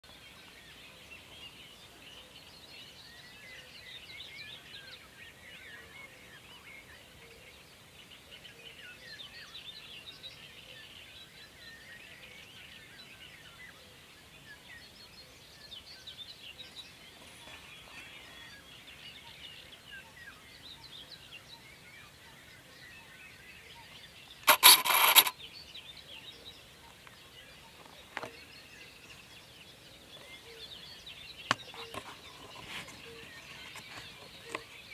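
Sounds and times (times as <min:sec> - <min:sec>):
birds chirping in chorus: 0:00.0 - 0:34.9.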